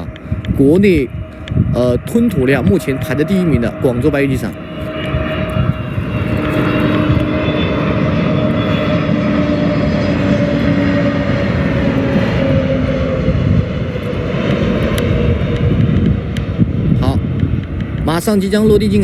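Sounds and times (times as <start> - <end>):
jet airliner engines droning: 0.0 - 19.0.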